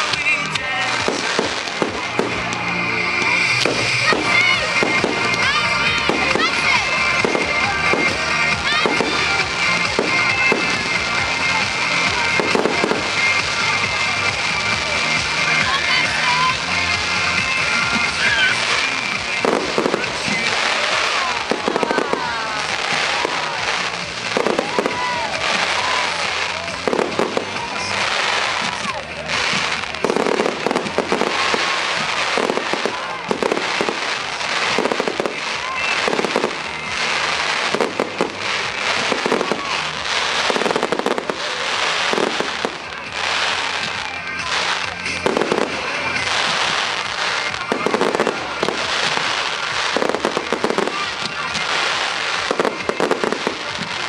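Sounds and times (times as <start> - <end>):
fireworks crackling: 0.0 - 54.0
volleys of sharp firework bangs: 0.0 - 54.0.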